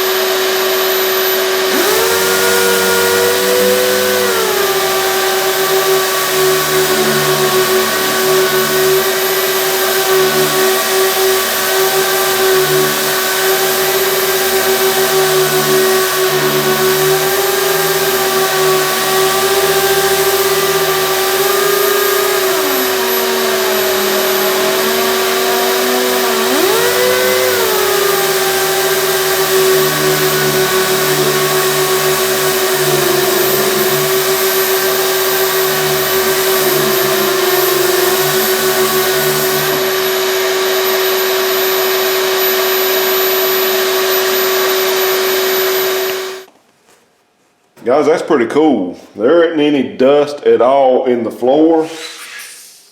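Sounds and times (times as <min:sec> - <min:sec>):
air sander motor hum: 0:00.0 - 0:46.5
shop vac running: 0:00.0 - 0:46.5, 0:51.8 - 0:52.9.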